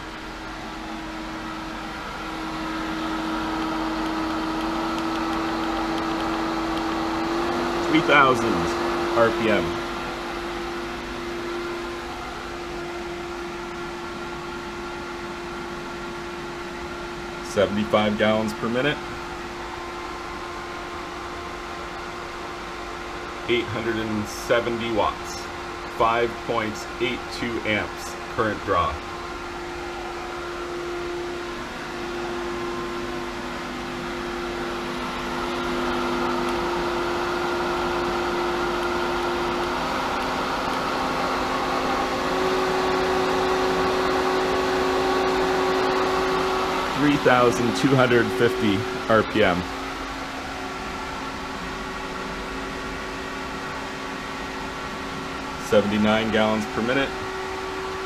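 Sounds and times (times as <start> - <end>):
pool pump humming: 0.0 - 58.0.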